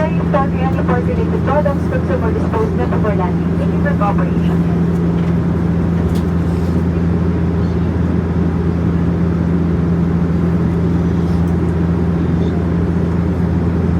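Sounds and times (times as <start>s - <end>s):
airliner cabin engine drone: 0.0s - 13.9s.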